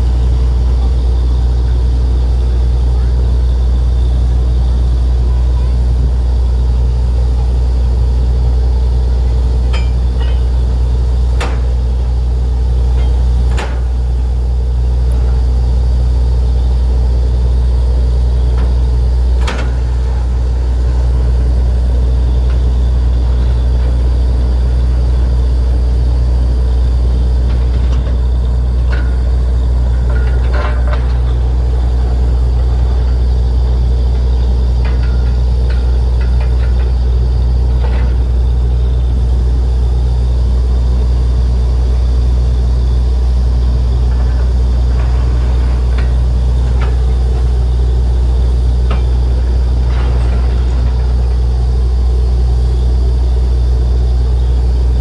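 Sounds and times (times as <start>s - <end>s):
drilling rig engine drone: 0.0s - 55.0s.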